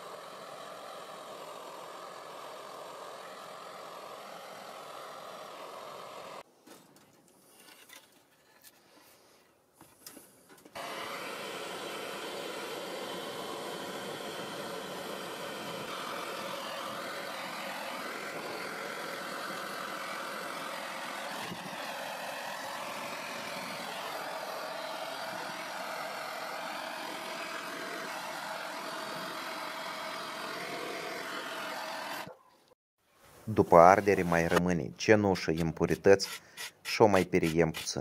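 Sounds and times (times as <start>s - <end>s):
gas torch burning: 0.0s - 6.4s, 10.7s - 32.4s, 33.5s - 34.7s, 35.4s - 38.0s.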